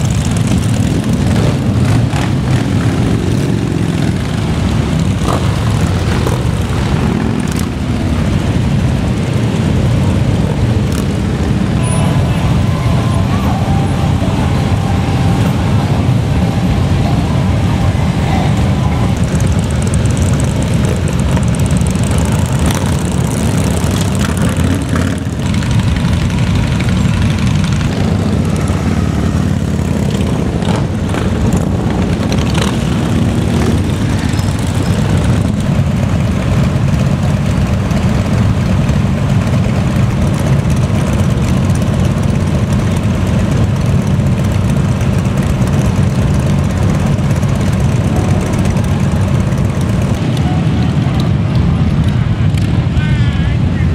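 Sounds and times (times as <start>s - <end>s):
motorcycles riding past: 0.0s - 53.9s.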